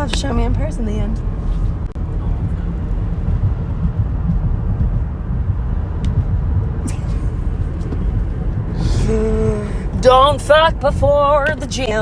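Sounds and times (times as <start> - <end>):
car rumble on the move: 0.0 - 12.0.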